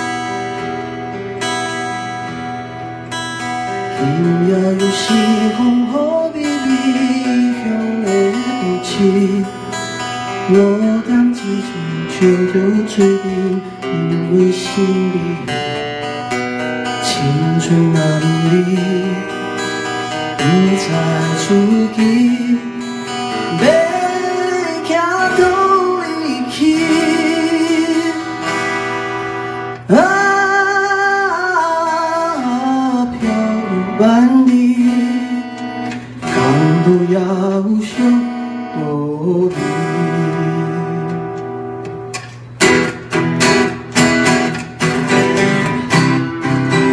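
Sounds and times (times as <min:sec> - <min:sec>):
acoustic guitars strummed: 0:00.0 - 0:46.9
man singing: 0:03.8 - 0:41.6.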